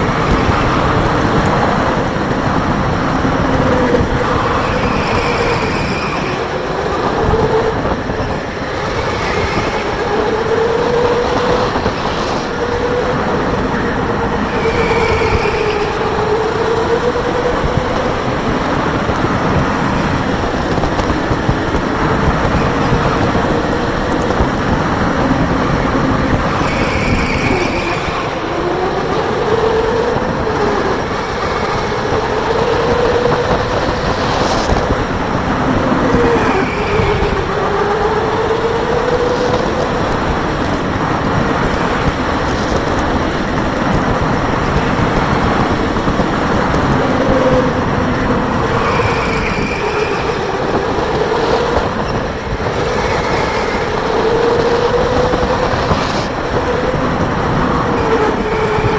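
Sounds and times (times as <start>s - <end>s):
kart rumbling on track: 0.0s - 58.9s.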